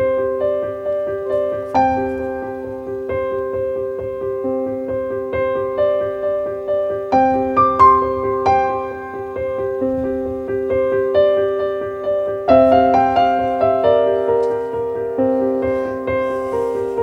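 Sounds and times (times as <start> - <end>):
gentle piano piece: 0.0 - 17.0.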